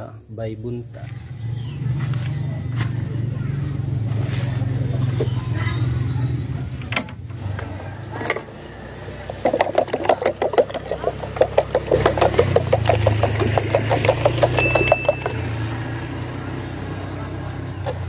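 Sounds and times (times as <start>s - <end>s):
motorbike engine at low revs: 0.9s - 18.0s.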